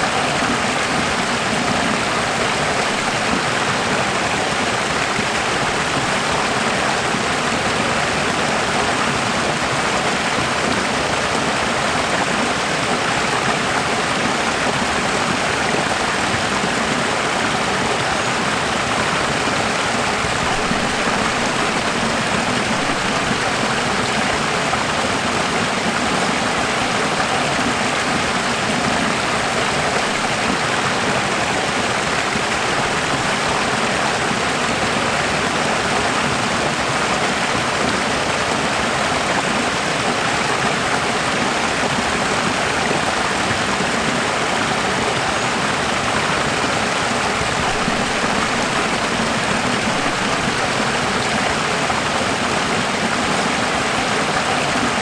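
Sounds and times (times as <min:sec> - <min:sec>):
running water flowing: 0:00.0 - 0:55.0.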